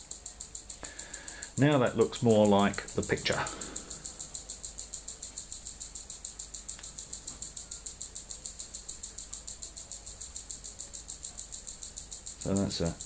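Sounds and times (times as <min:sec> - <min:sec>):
insect pulsing chirp: 0:00.0 - 0:13.0.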